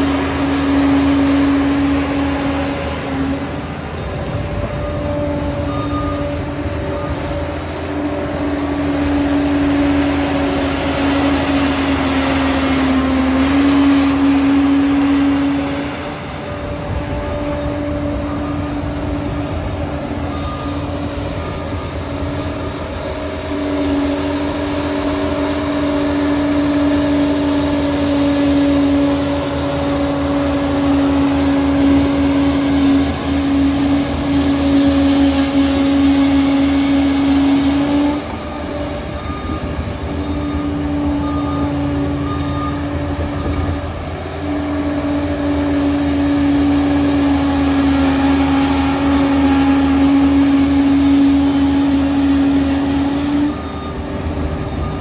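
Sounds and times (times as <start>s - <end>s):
dozer engine under load: 0.0s - 55.0s
high even whine: 0.0s - 55.0s.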